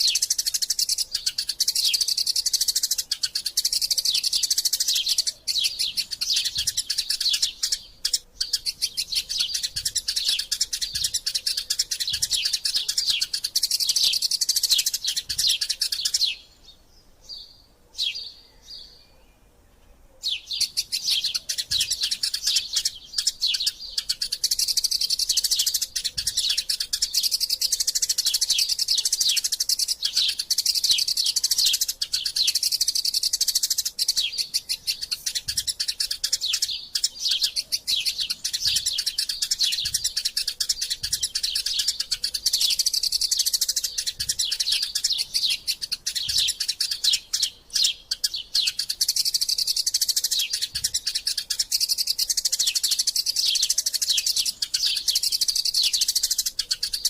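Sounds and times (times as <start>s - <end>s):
sparrows chattering: 0.0s - 57.0s.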